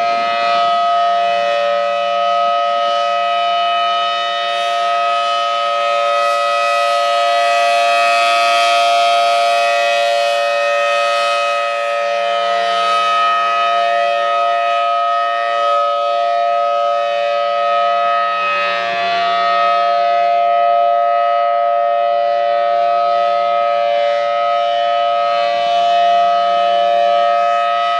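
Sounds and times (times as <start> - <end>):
outdoor warning siren steady tone: 0.0 - 27.9.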